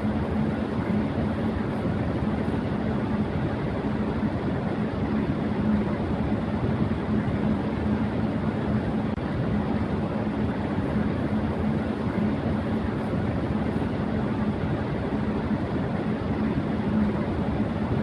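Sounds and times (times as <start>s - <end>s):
electric fan air rush: 0.0s - 18.0s
low motor hum: 0.0s - 18.0s.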